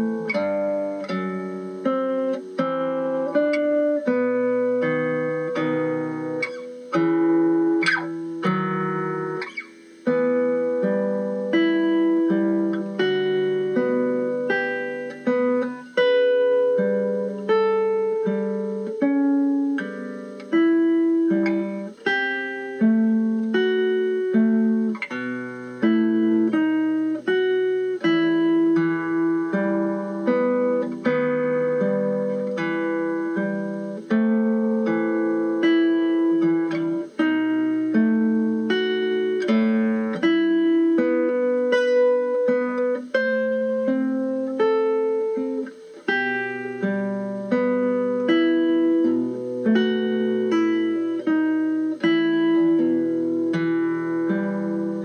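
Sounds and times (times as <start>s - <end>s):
slow plucked guitar melody: 0.0s - 55.0s.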